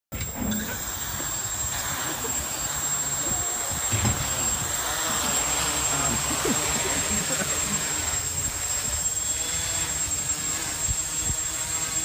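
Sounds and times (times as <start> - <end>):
drone propellers rushing: 0.1 - 12.0
high motor whine: 0.1 - 12.0.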